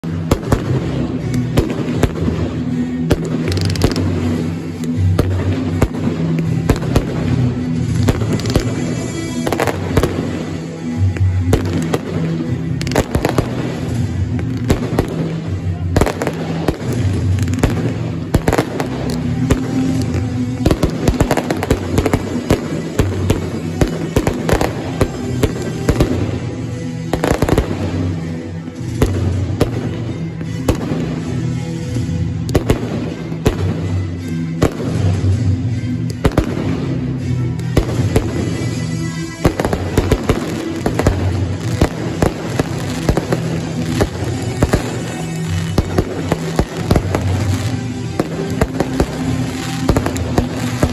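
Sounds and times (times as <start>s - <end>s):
fireworks bursting and crackling: 0.0s - 50.9s
loud music with bass: 0.0s - 50.9s.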